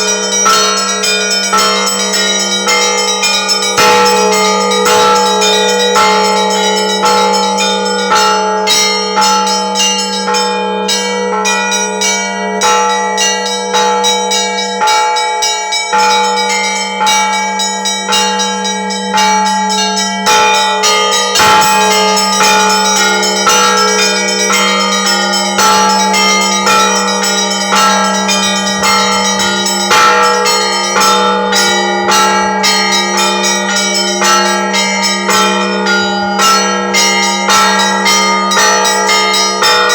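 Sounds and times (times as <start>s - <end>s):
large bell deep hum: 0.0s - 39.9s
small church bells ringing rapidly: 0.0s - 39.9s.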